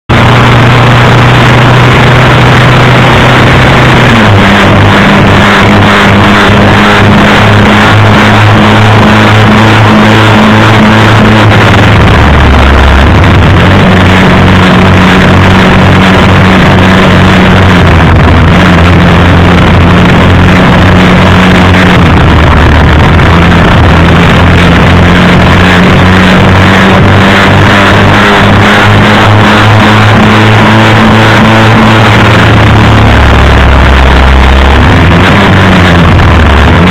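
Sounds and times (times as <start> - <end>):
low motorcycle hum: 0.0 - 36.9.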